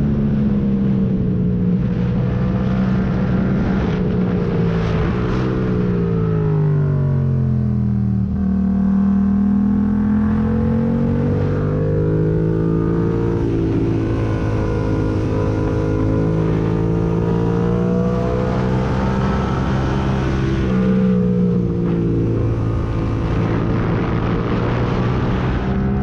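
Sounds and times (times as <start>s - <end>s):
motorcycle engine revving: 2.0s - 26.0s.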